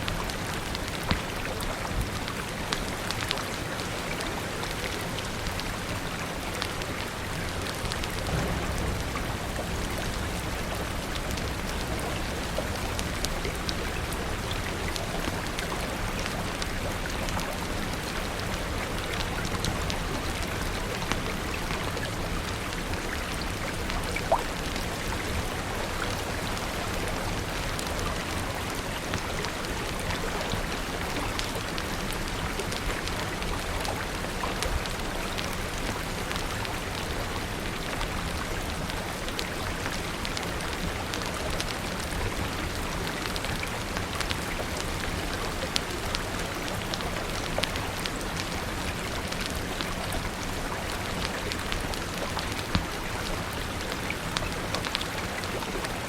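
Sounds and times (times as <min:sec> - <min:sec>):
steady rain: 0:00.0 - 0:56.0
wood fire crackling: 0:00.1 - 0:56.0.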